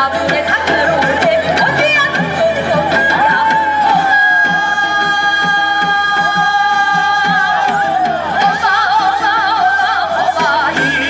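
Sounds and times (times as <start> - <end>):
folk song singing with vibrato: 0.0 - 11.0
steady drum beat: 0.0 - 11.0.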